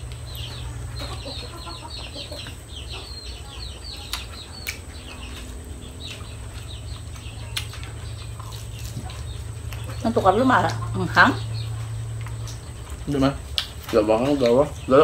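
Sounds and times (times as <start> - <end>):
chickens peeping: 0.0 - 15.0.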